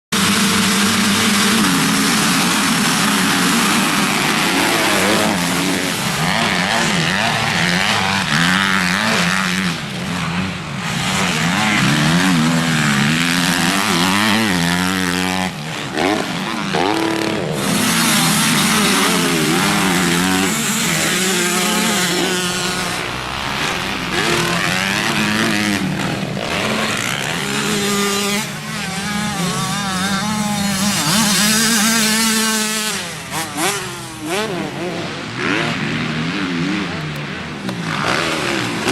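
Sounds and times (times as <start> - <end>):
motocross bikes revving hard: 0.2 - 38.9.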